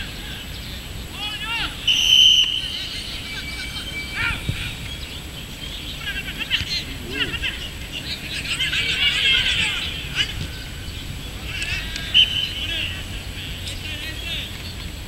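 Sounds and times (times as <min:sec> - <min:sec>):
birds chirping: 0:00.0 - 0:15.0
open-air background noise: 0:00.0 - 0:15.0.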